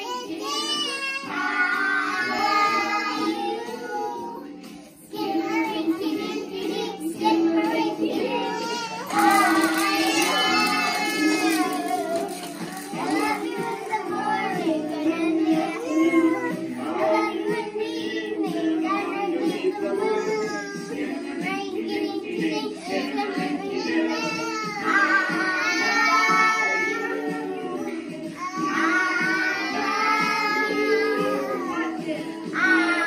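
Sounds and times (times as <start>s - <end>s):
young children singing: 0.0s - 33.0s.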